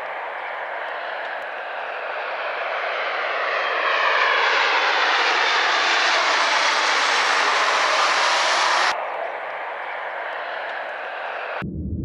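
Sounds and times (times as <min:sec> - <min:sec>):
jet engine noise: 0:00.0 - 0:11.6.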